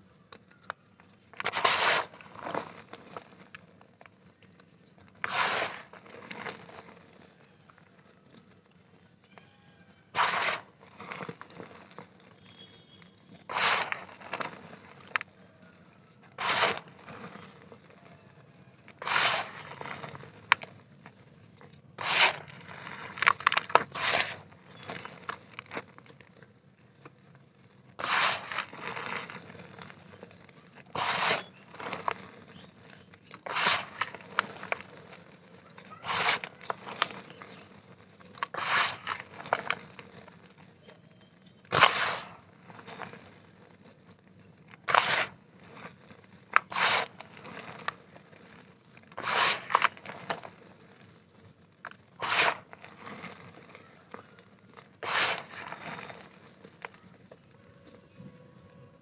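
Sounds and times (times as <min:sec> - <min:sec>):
dirt crunching and crumbling in hand: 0:00.5 - 0:59.0.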